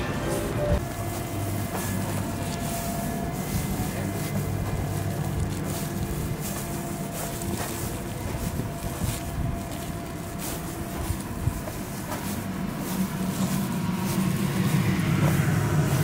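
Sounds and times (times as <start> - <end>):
city background hum: 0.0 - 16.0
footsteps crunching on snow: 0.0 - 16.0.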